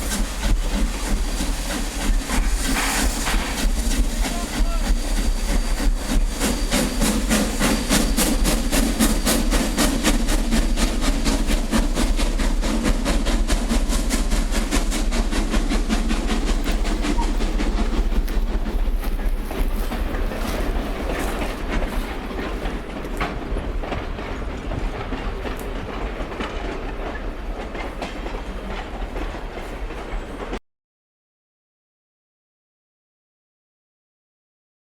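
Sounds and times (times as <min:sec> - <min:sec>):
steam train rhythmic clatter: 0:00.0 - 0:30.6.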